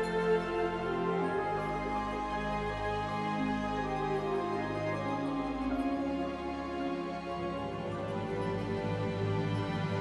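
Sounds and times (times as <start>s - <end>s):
slow music of held chords: 0.0s - 10.0s.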